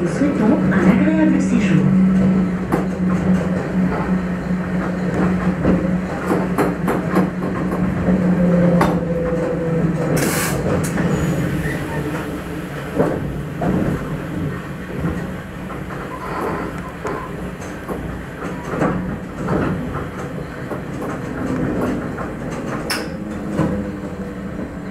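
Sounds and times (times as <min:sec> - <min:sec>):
railcar hum: 0:00.0 - 0:24.9
train wheels clicking over rail joints: 0:00.0 - 0:24.9.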